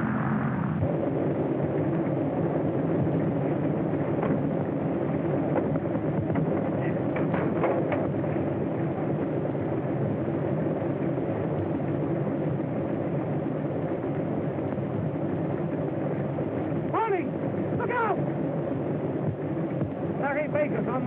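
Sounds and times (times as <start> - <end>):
propeller plane engines droning: 0.0 - 21.0.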